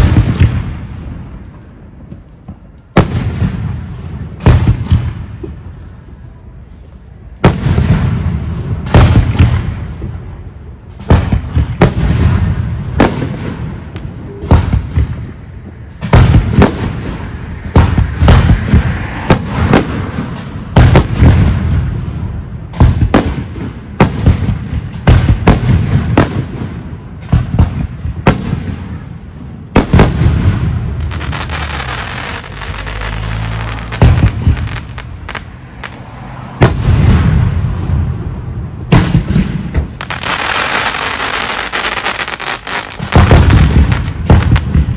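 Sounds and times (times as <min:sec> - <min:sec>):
fireworks bursting: 0:00.0 - 0:06.0, 0:07.1 - 0:44.9
fireworks rumble and crackle: 0:00.0 - 0:44.9.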